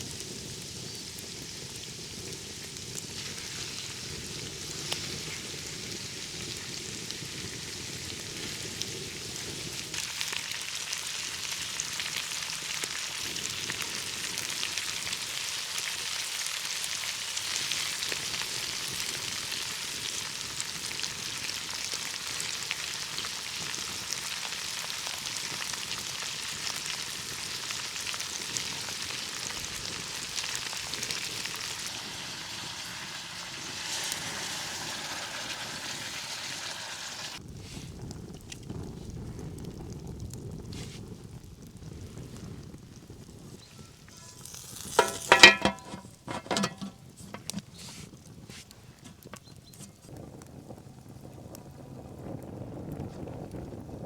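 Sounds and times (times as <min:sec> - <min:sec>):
food sizzling in hot oil: 0:00.0 - 0:50.0.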